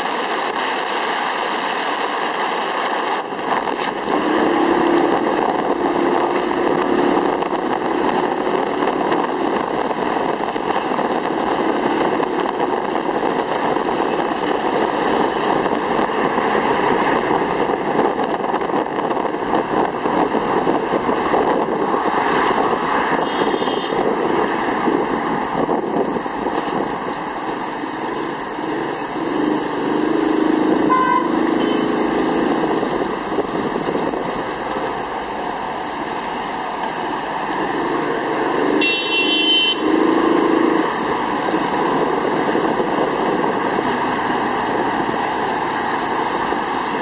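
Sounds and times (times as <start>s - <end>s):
motorcycle engine and road noise: 0.0s - 47.0s
surrounding traffic: 0.0s - 47.0s.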